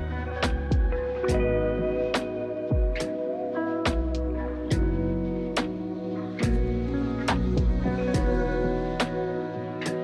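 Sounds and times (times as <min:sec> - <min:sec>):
music with held chords: 0:00.0 - 0:10.0.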